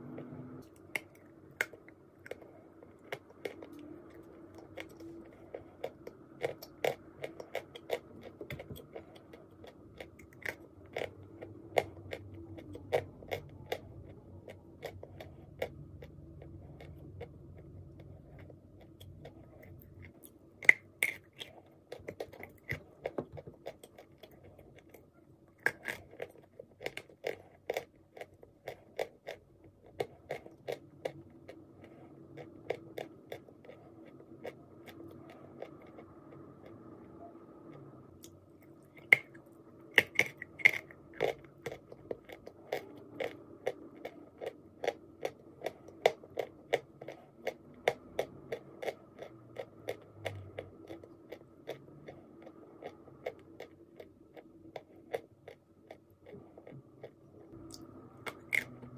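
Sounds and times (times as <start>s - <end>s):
crunchy chewing: 0.6s - 58.9s.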